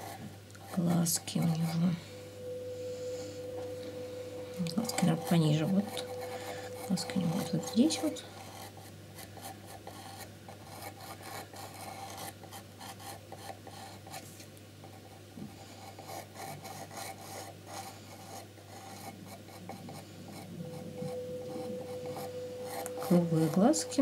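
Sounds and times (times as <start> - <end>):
pencil scratching on painted box: 0.0 - 3.5, 4.7 - 14.3, 15.8 - 24.0.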